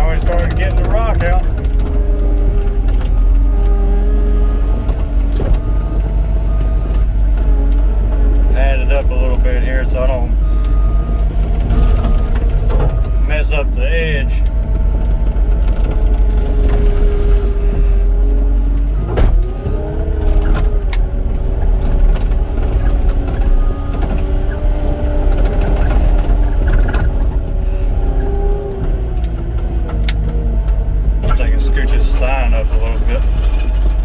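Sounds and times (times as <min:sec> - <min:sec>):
excavator engine and hydraulics: 0:00.0 - 0:34.0.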